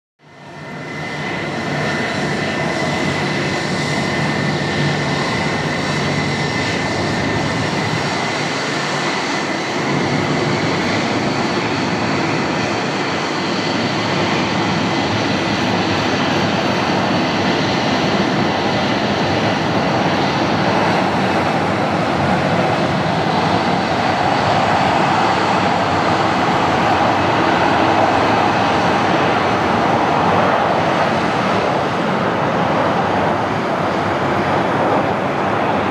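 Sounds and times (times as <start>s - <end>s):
jet engines roaring: 0.2s - 35.9s
high engine whine: 0.3s - 35.9s.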